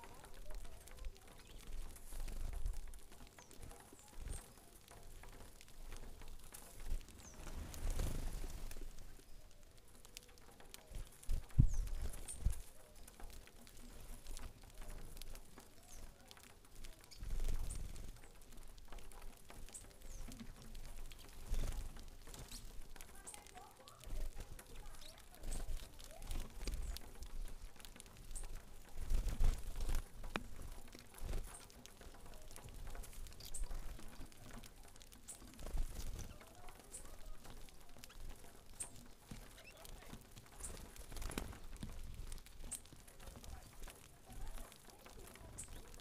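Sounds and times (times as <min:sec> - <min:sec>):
birds pecking on wooden board: 0:00.0 - 0:46.0.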